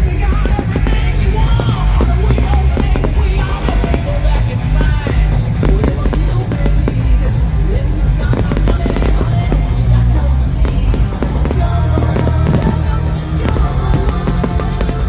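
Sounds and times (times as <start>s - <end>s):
loud rock music with vocals: 0.0s - 15.0s.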